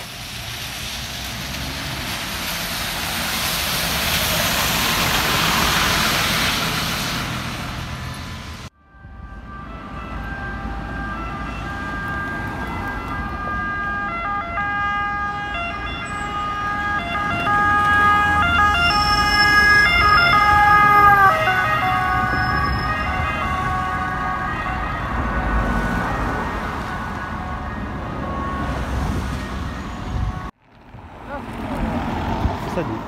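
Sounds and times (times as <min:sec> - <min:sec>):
bus engine passing with high whine: 0:00.0 - 0:33.0.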